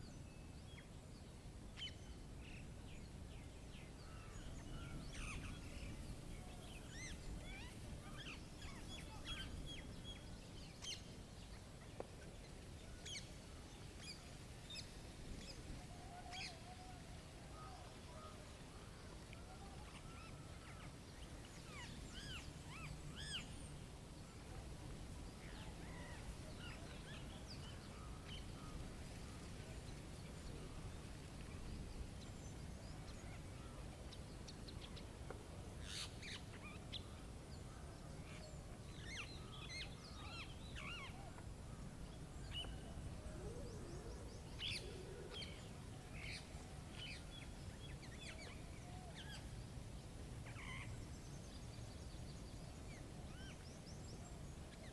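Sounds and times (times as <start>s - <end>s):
low background hiss: 0.0s - 54.9s.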